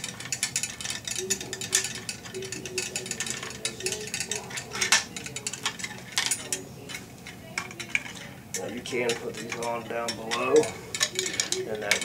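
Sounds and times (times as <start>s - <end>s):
metal parts clicking and clinking: 0.0s - 12.0s.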